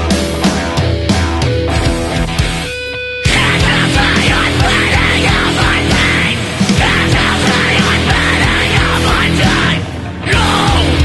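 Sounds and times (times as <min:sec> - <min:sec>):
heavy rock band playing: 0:00.0 - 0:11.0.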